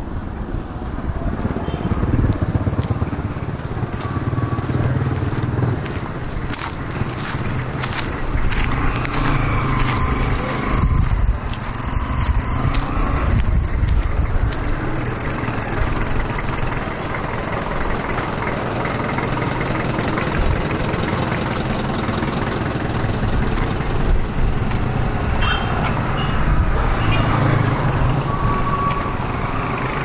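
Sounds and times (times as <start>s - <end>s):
engine low rumble: 0.0s - 30.0s
high-pitched whine: 0.0s - 30.0s.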